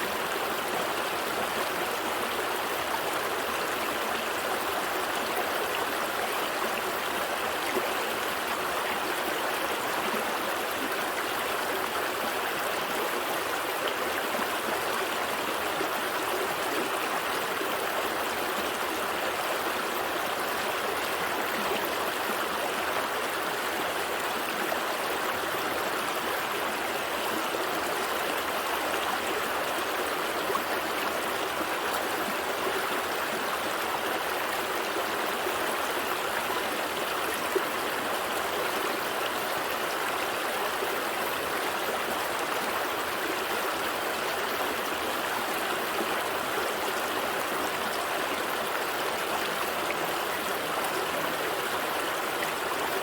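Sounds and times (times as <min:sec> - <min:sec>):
stream gurgling over rocks: 0:00.0 - 0:53.0.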